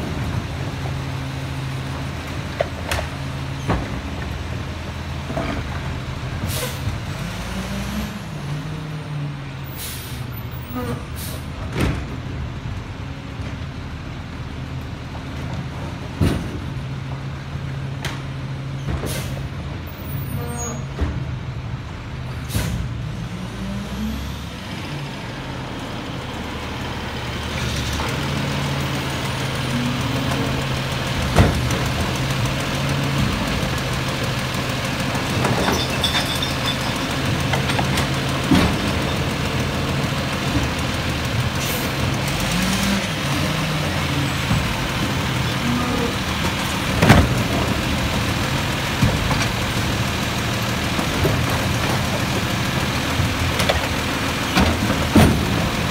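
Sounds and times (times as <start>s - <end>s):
garbage truck diesel engine: 0.0s - 55.9s.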